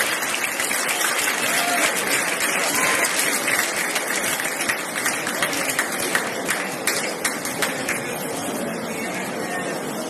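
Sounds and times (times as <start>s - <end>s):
crowd clapping: 0.0s - 8.5s
crowd noise: 0.0s - 10.0s.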